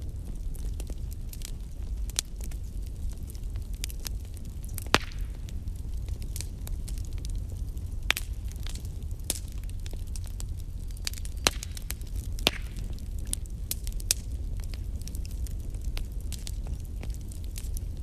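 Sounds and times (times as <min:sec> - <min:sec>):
burning wood crackling and popping: 0:00.0 - 0:18.0.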